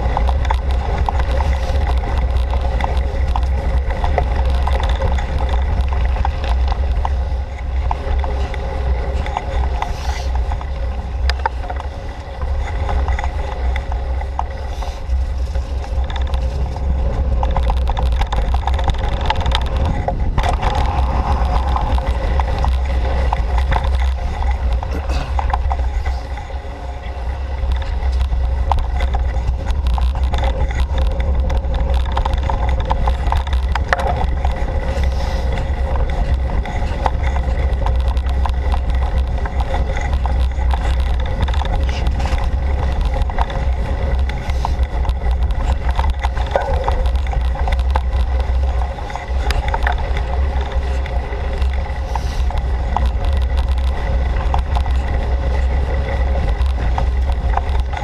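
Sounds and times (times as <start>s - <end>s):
bike rattles and clicks: 0.0s - 58.0s
wind and vibration rumble: 0.0s - 58.0s.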